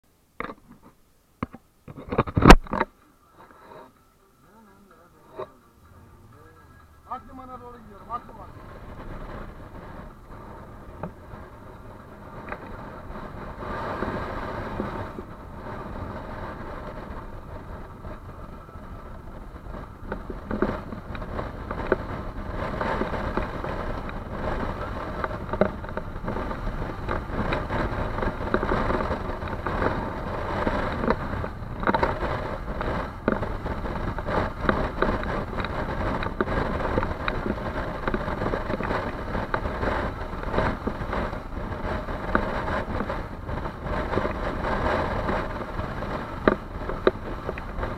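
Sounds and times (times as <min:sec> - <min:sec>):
vehicle engine under load: 0:05.2 - 0:47.9.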